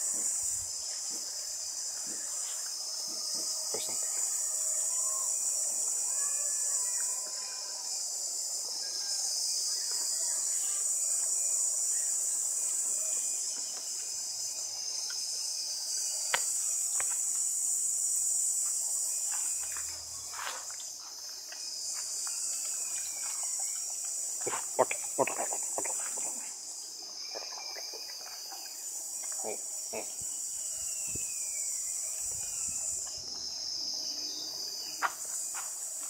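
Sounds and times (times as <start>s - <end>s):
high-pitched insect chorus buzzing: 0.0s - 36.0s.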